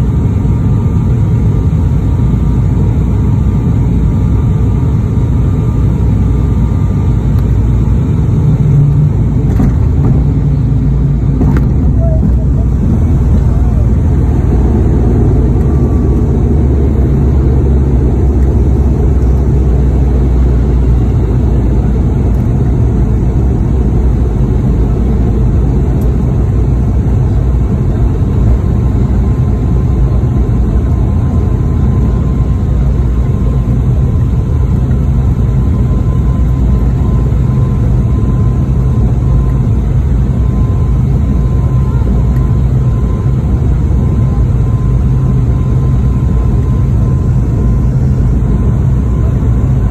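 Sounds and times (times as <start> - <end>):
aircraft engine drone: 0.0 - 49.9
faint steady whine: 0.0 - 49.9.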